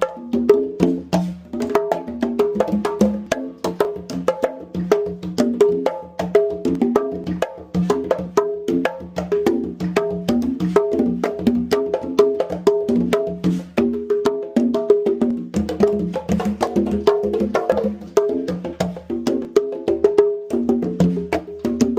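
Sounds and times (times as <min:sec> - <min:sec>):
conga drums played by hand: 0:00.0 - 0:21.9.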